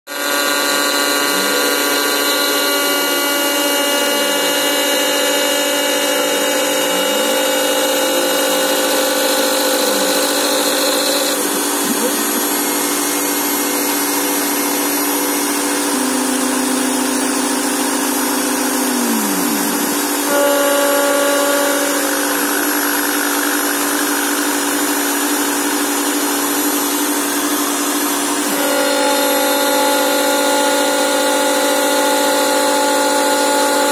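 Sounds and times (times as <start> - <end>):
milling machine spindle running: 0.1 - 33.9
stepper motors whining: 0.1 - 33.9.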